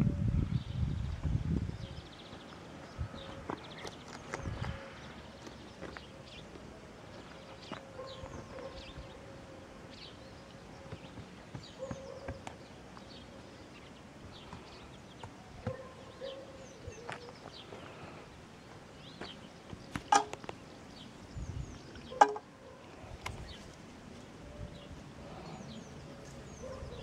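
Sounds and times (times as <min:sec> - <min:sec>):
small birds chirping: 0:00.5 - 0:27.0.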